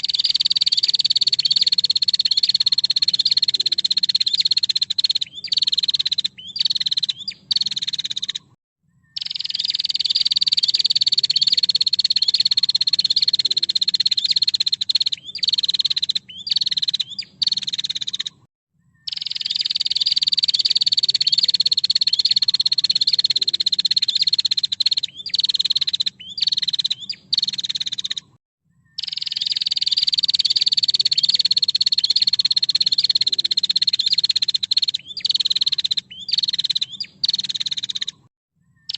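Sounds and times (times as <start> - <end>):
bird chattering bursts: 0.0 - 8.5, 9.2 - 18.4, 19.1 - 28.3, 29.0 - 38.3
bird buzzy trill: 0.0 - 8.6, 9.2 - 38.9.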